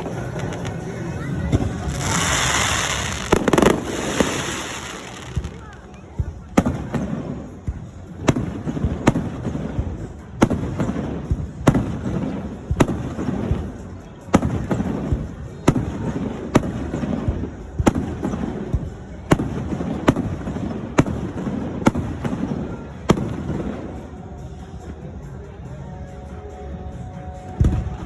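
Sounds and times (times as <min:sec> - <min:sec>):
fireworks bursting with bangs: 0:00.0 - 0:25.1, 0:27.4 - 0:28.0.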